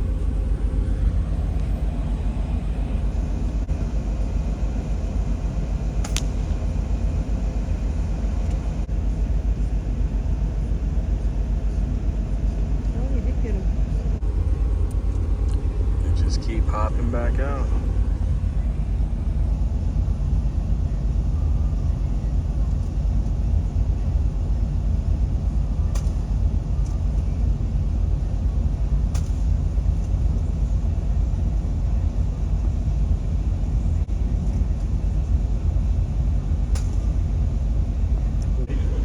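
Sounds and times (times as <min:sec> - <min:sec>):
low rumble: 0:00.0 - 0:39.0.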